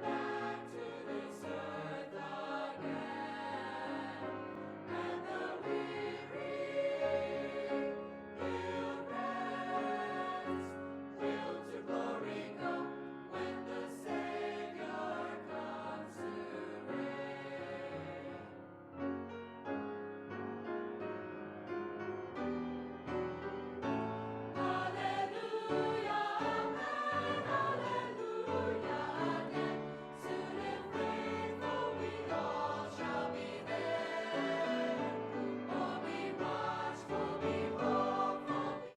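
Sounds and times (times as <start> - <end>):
choir singing with accompaniment: 0.0 - 18.7, 24.2 - 39.0.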